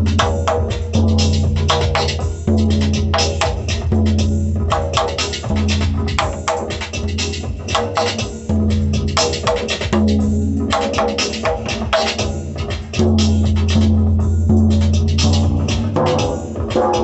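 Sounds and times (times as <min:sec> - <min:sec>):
drum struck ringing notes: 0:00.0 - 0:17.0.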